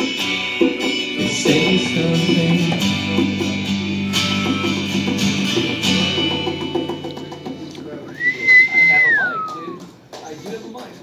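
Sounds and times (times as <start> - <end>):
acoustic guitar strumming: 0.0 - 9.0.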